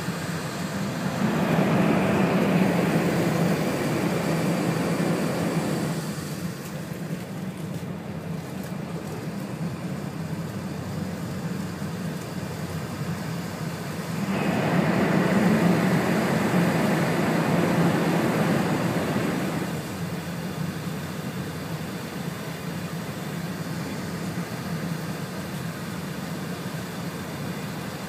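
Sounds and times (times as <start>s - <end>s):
train rumble inside cabin: 0.0s - 28.0s.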